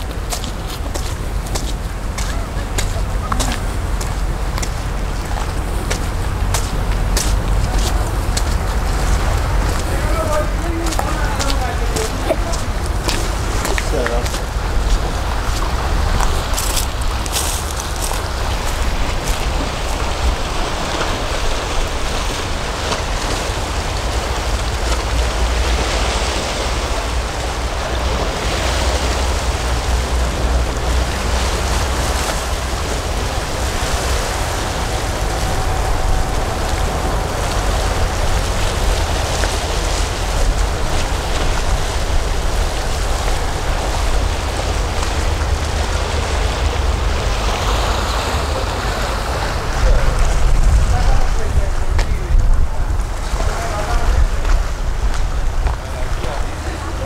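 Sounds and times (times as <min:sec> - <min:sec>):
sea surf washing on shore: 0:00.0 - 0:57.0
wind rumbling on microphone: 0:00.0 - 0:57.0.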